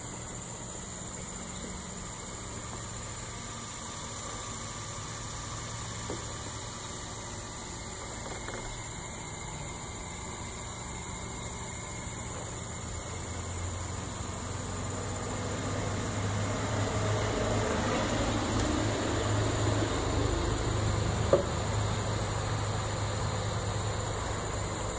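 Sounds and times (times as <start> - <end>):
faint high whine: 0.0 - 24.9
mechanical hum and hiss: 0.0 - 24.9.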